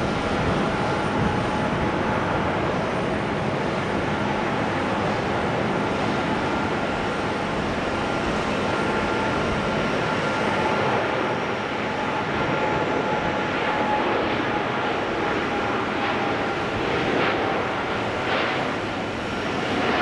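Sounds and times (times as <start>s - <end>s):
jet engine whine: 0.0s - 20.0s
jet engines rushing: 0.0s - 20.0s.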